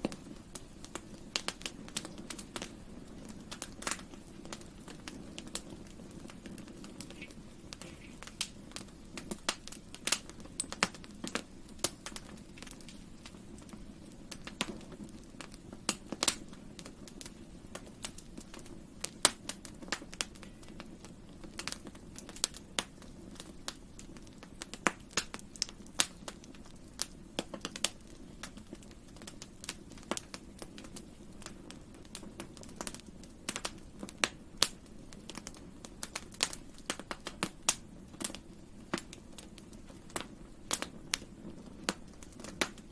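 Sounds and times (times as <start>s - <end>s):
flames rushing: 0.0s - 42.9s
wood crackling and popping: 0.0s - 42.9s.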